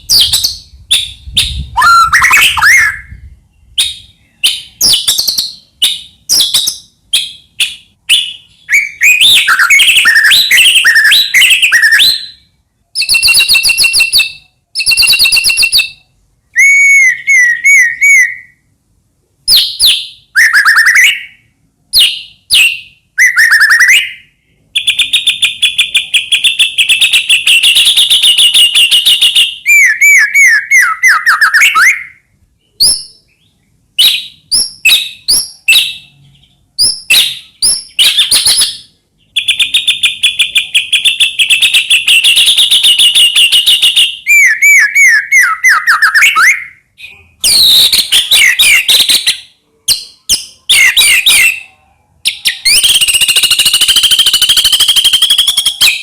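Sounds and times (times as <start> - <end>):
bird singing whistled phrases: 0.0 - 18.6, 19.5 - 56.0.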